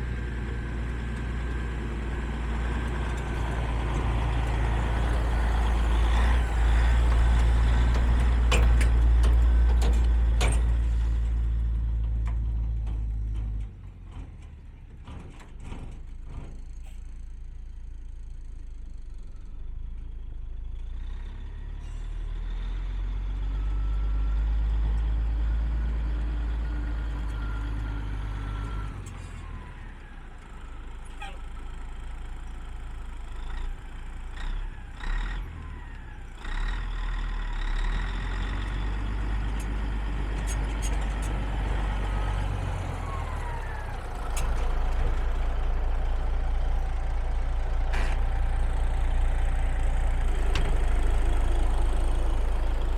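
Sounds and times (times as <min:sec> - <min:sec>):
truck diesel engine running: 0:00.0 - 0:21.1, 0:24.5 - 0:52.9.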